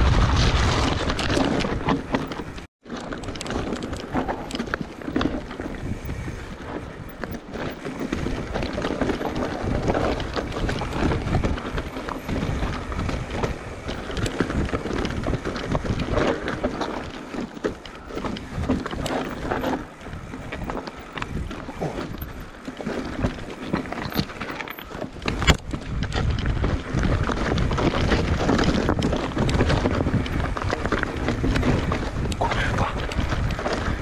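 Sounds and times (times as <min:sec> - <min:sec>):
mountain bike clattering: 0:00.0 - 0:34.0
wind on microphone: 0:00.0 - 0:34.0
tyres rolling on stone: 0:00.3 - 0:34.0.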